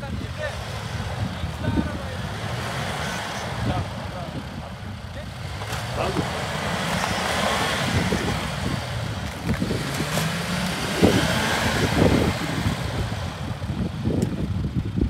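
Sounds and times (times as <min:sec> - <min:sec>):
car engine under load: 0:00.0 - 0:15.0
tyres rushing through snow: 0:00.2 - 0:14.1.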